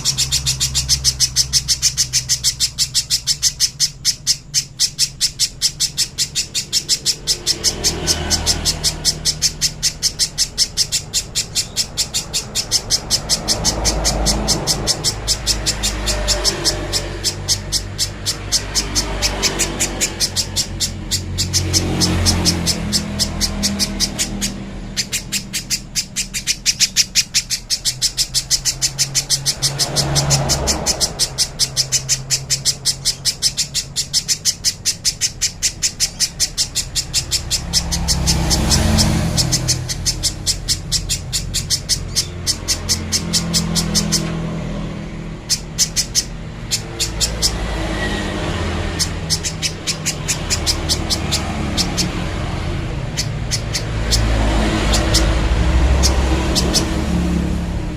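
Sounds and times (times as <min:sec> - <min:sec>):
bird calling sharp high notes: 0:00.0 - 0:57.9
low traffic rumble: 0:00.0 - 0:57.9.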